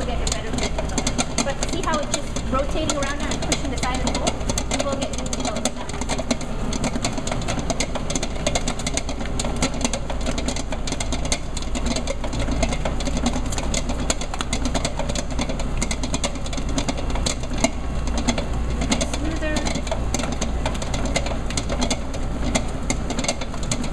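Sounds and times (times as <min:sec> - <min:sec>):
clatter of clicks and knocks: 0:00.0 - 0:23.9
stand mixer motor hum: 0:00.0 - 0:23.9.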